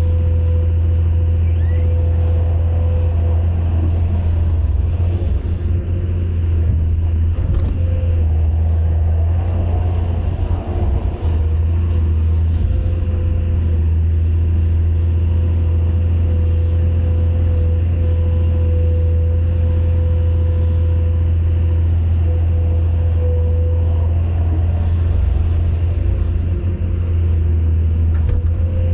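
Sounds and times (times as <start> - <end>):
excavator engine running: 0.0 - 28.9
steady whine: 0.0 - 28.9.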